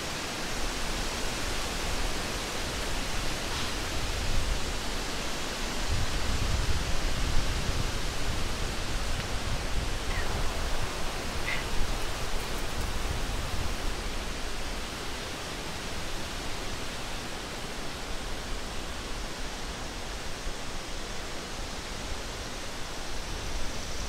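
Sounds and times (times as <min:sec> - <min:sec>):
rushing hiss: 0:00.0 - 0:24.0.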